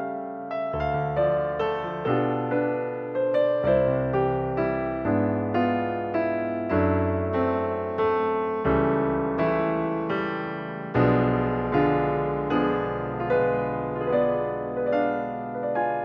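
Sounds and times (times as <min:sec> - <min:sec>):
gentle piano piece: 0:00.0 - 0:16.0.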